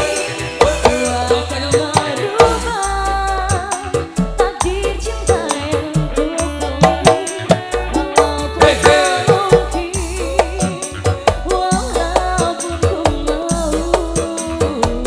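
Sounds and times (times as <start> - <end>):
bending melody line: 0.0 - 15.0
hand drum beat: 0.0 - 15.0.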